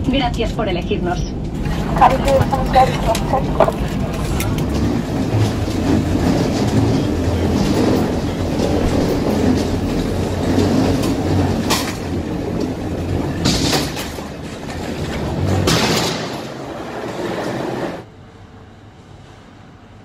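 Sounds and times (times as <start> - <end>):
wheels and airframe rumbling: 0.8 - 20.0
aircraft cabin rattling: 1.5 - 18.0.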